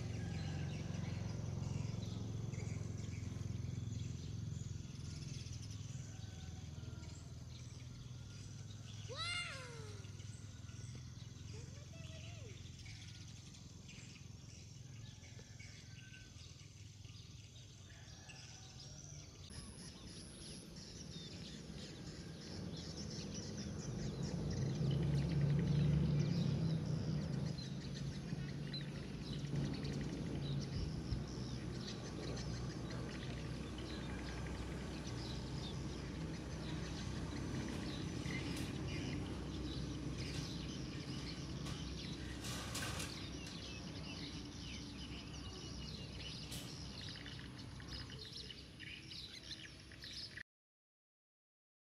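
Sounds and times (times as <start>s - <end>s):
small bird chirps: 0.1s - 50.4s.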